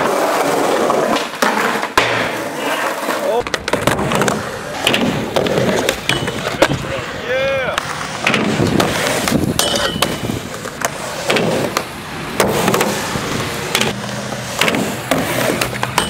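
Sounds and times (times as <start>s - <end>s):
skateboard wheels rolling on concrete: 0.0s - 16.0s
skateboards clacking on ground: 0.0s - 16.0s.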